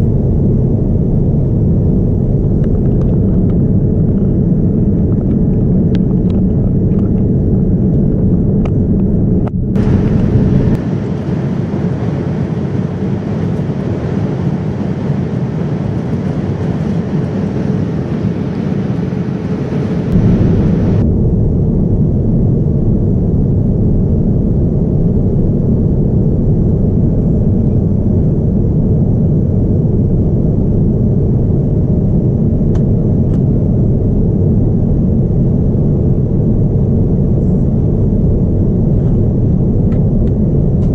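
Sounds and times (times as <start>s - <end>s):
jet cabin engine rumble: 0.0s - 40.9s.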